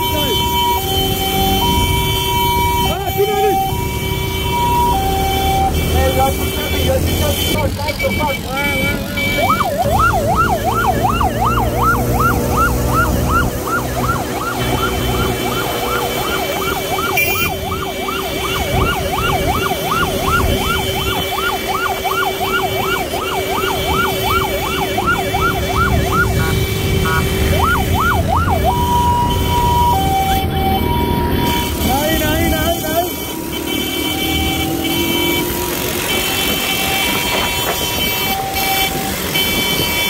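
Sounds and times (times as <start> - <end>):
electronic siren wailing: 0.0 - 7.6, 8.6 - 39.8
engine noise: 0.0 - 40.0
traffic noise: 0.0 - 40.0.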